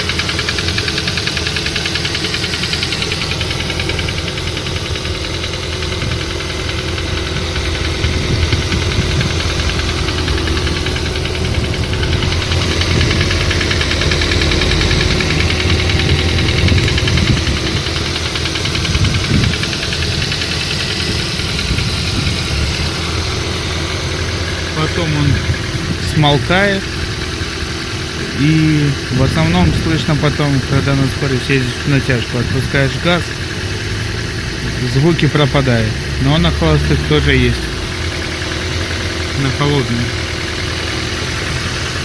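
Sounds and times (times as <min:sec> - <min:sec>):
engine idling with knocking rattle: 0:00.0 - 0:42.0.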